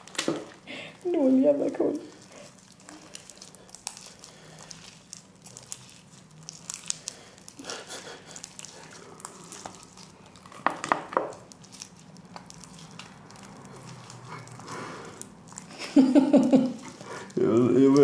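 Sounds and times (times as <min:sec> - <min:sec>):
hands squishing slime: 0:00.0 - 0:18.0.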